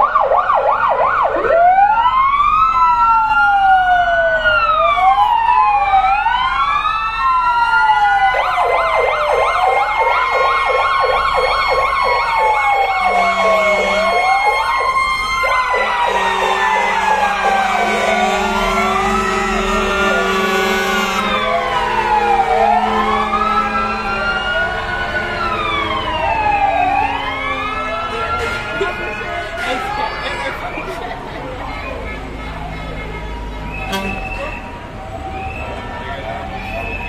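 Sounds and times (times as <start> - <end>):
siren yelps: 0.0 - 31.0, 31.6 - 37.0
fire engine sirens wailing: 0.0 - 37.0.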